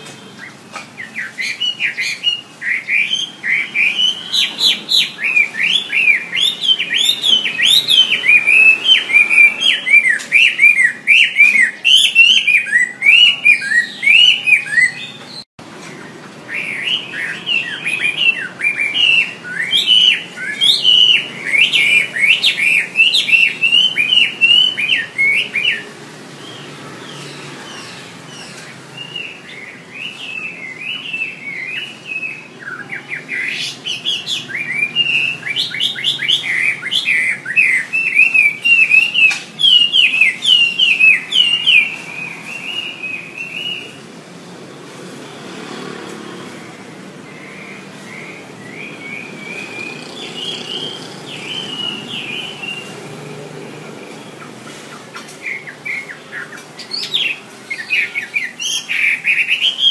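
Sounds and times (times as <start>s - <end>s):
bird singing whistled notes: 0.0s - 15.4s, 16.0s - 53.1s, 55.2s - 59.9s.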